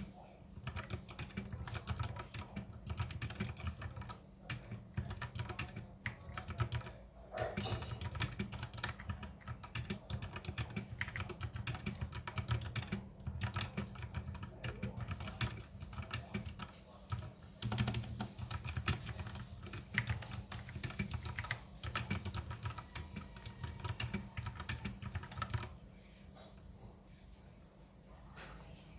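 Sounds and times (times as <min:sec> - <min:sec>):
mechanical keyboard key clacks: 0:00.6 - 0:06.9, 0:07.6 - 0:25.7.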